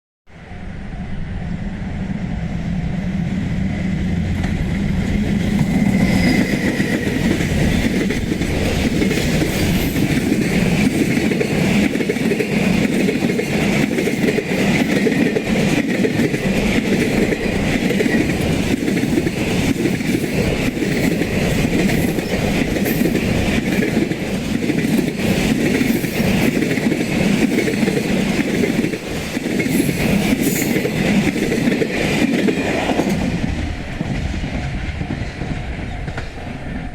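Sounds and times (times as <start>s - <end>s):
freight train passing: 0.3s - 36.9s.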